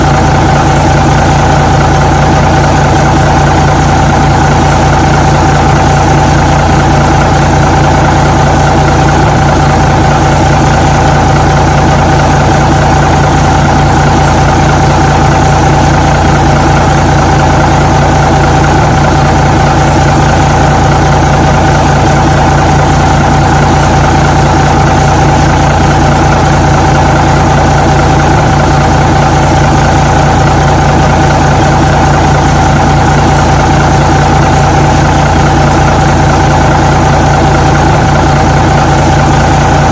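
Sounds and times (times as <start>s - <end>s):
constant engine whine: 0.0s - 39.9s
truck engine idling: 0.0s - 39.9s.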